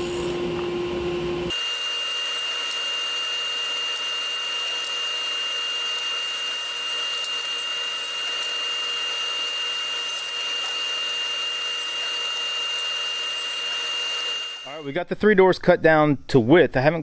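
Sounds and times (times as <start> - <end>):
woodshop machinery whine and hiss: 0.0 - 14.8.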